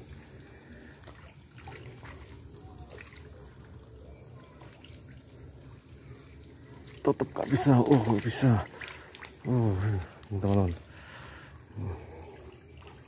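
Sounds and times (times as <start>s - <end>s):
faint trickling water: 0.0s - 13.0s.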